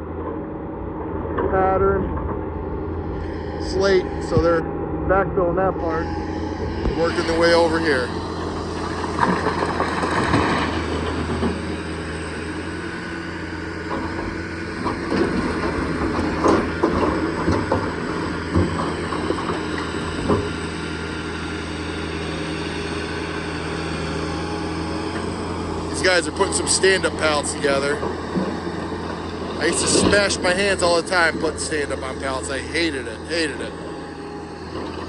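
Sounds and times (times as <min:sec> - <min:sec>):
large engine running: 0:00.0 - 0:35.0.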